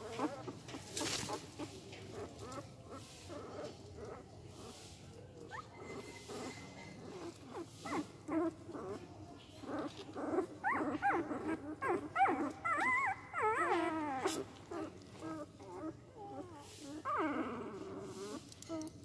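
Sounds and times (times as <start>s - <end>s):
puppies whimpering: 0.0s - 4.8s, 5.5s - 18.9s.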